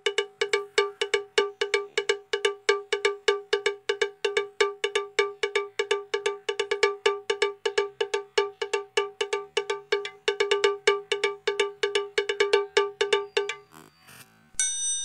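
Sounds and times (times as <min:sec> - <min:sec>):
cowbell-like percussion loop: 0:00.0 - 0:14.0.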